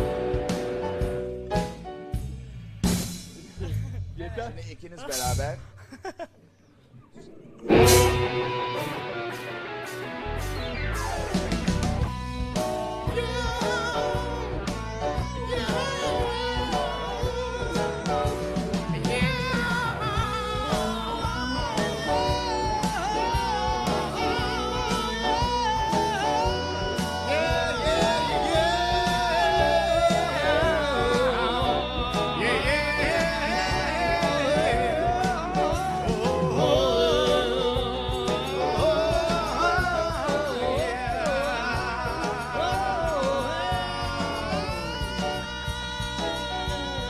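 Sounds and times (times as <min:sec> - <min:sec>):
instrumental accompaniment: 0:07.7 - 0:47.0.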